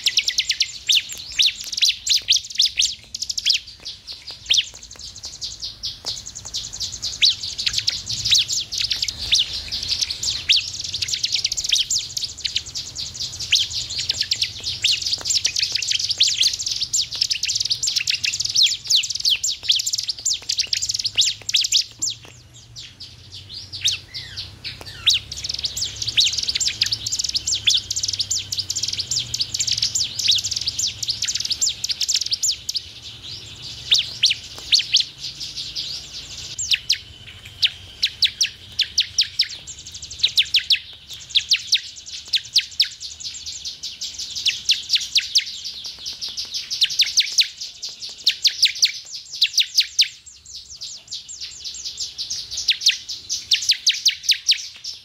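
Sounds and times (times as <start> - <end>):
bird high sharp chirps: 0.0 - 55.0.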